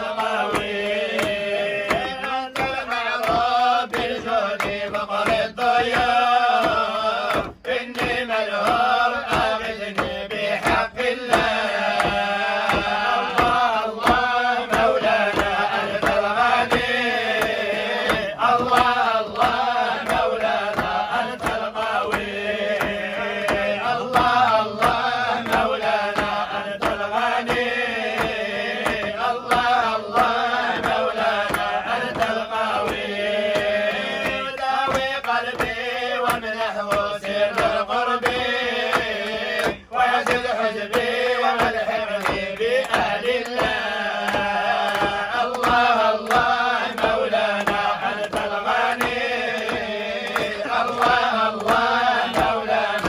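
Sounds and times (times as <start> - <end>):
men chanting in unison: 0.0 - 53.0.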